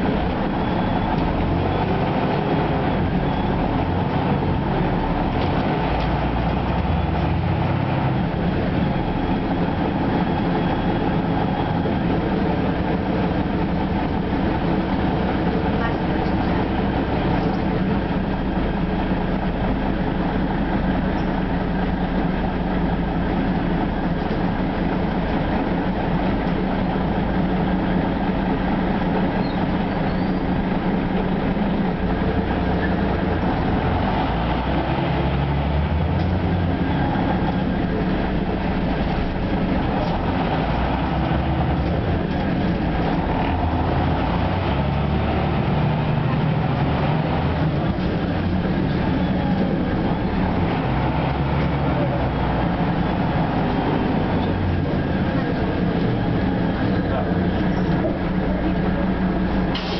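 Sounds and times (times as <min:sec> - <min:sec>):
bus diesel engine: 0:00.0 - 0:59.9
road rumble: 0:00.0 - 0:59.9.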